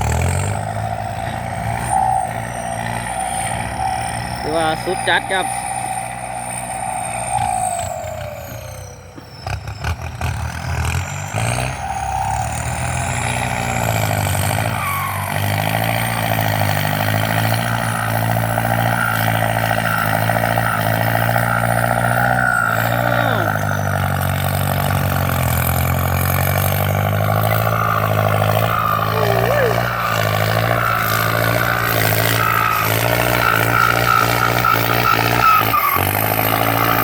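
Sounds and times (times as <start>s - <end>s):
high turbo whistle: 0.0s - 10.7s, 11.3s - 37.0s
tractor diesel engine under load: 0.0s - 37.0s.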